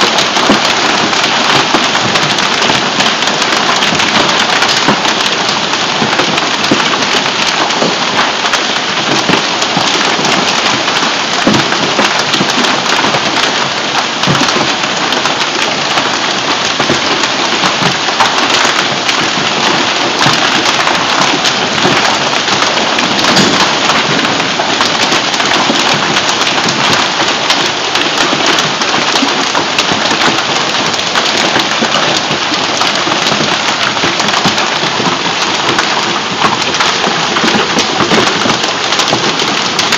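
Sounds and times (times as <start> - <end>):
hail and heavy rain pelting: 0.0 - 39.9.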